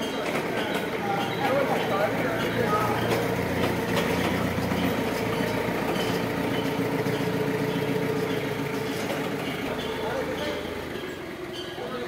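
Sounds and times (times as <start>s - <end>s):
forklift engine humming: 0.0s - 12.0s.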